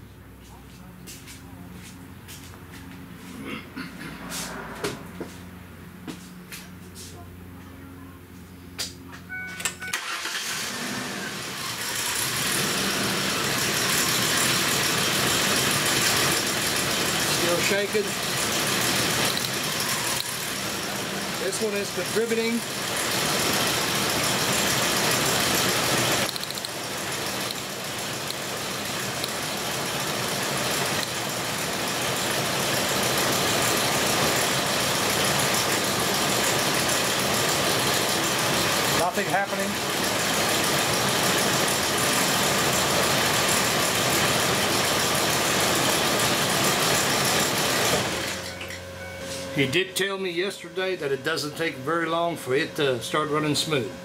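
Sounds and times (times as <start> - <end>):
rough running car engine: 10.2 - 54.0.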